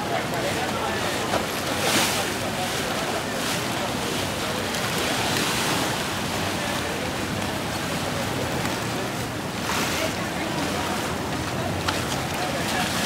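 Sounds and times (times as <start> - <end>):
low boat engine hum: 0.0 - 13.0
sea water rushing and splashing: 0.0 - 13.0.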